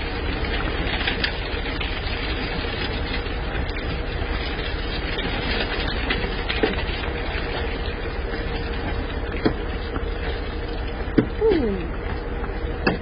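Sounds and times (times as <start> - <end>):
low steady hum: 0.0 - 13.0
water gushing from hose: 0.0 - 13.0.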